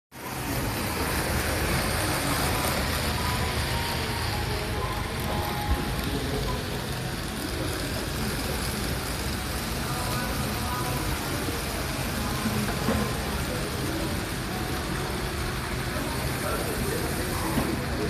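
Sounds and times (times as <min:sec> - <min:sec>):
model trains running on track: 0:00.1 - 0:18.0.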